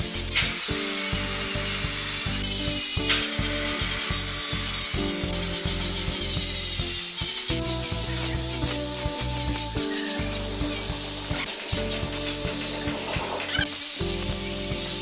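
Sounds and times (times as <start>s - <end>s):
angle grinder sanding wood: 0.0s - 15.0s.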